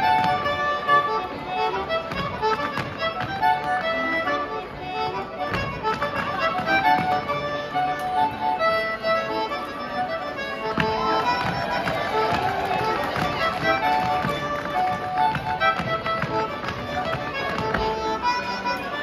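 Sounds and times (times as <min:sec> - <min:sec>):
dancers' feet tapping on wooden floor: 0:00.0 - 0:00.7, 0:01.3 - 0:04.3, 0:05.0 - 0:08.3, 0:10.4 - 0:19.0
lively traditional dance tune: 0:00.0 - 0:19.0.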